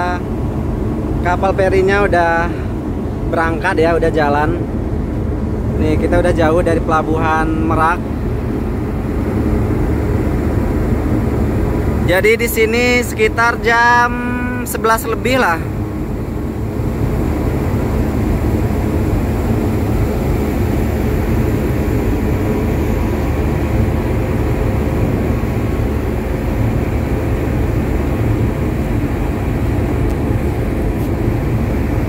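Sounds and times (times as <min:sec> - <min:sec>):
ferry engines droning: 0:00.0 - 0:32.0.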